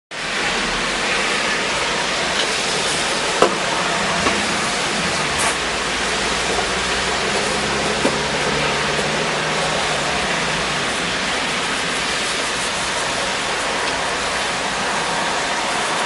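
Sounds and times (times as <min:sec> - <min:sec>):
angle grinder sanding wood: 0:00.4 - 0:16.0.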